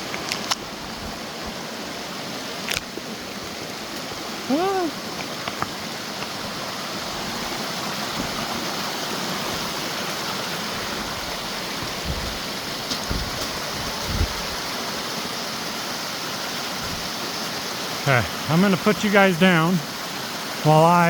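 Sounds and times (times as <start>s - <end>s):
creek and waterfall rushing: 0.0s - 21.0s.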